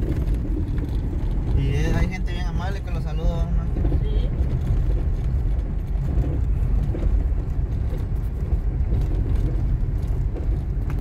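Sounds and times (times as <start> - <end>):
vehicle driving on road: 0.0 - 11.0.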